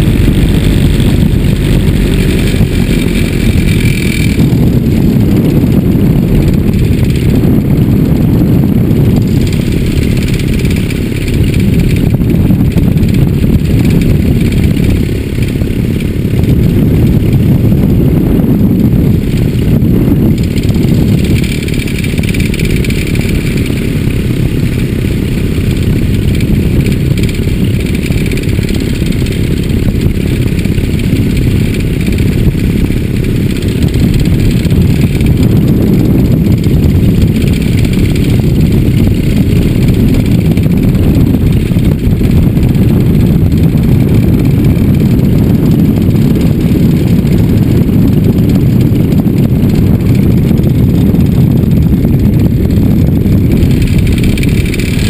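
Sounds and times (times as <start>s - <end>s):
engine running loudly: 0.0s - 55.0s
wind rushing over microphone: 0.0s - 55.0s.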